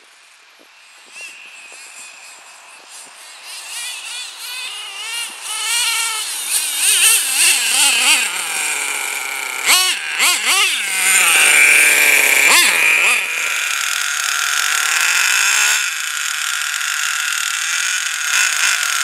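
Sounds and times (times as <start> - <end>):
nitro engine revving: 1.1 - 19.0
engine throttle blips: 3.1 - 18.8.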